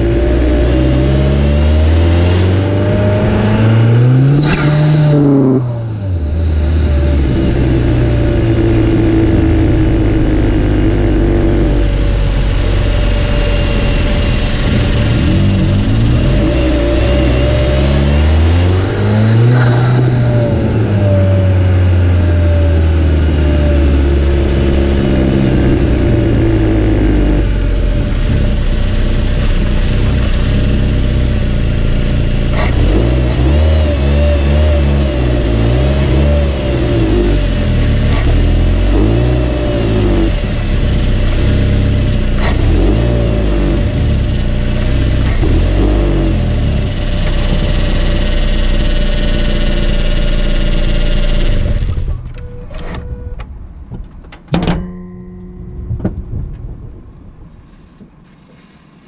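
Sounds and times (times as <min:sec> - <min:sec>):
car engine revving: 0:00.0 - 0:52.2.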